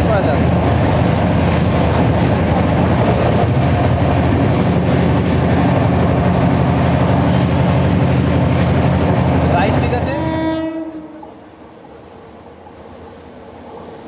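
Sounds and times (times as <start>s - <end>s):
train carriage rumbling: 0.0s - 14.0s.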